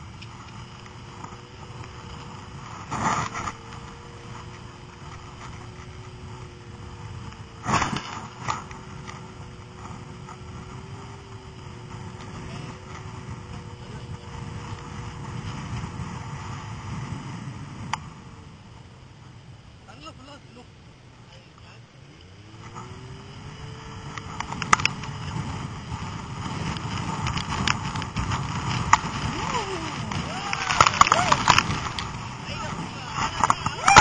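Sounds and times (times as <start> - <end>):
snowmobile engine running: 0.0 - 18.2, 22.3 - 34.0.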